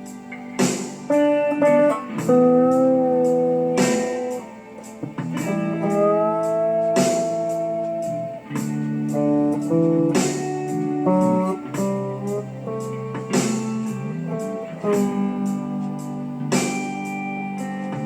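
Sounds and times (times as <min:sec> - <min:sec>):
faint steady ticking beat: 0:00.0 - 0:18.0
slide lap steel guitar: 0:00.0 - 0:18.0.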